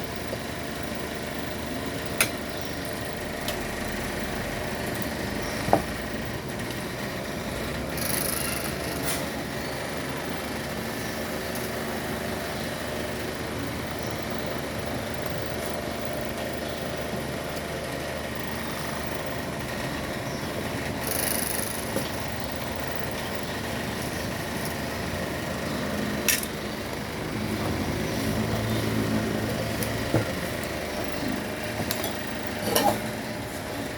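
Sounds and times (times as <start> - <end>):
mechanical hum: 0.0 - 33.9.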